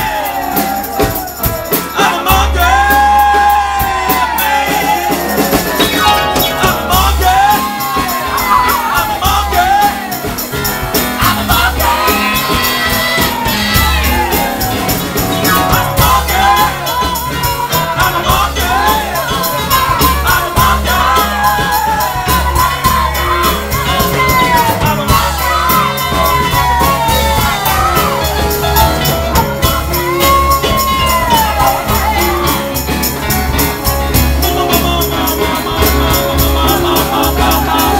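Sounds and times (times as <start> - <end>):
electric piano: 0.0 - 37.9
live rock band playing: 0.0 - 37.9
man singing: 1.4 - 33.4, 34.0 - 37.9.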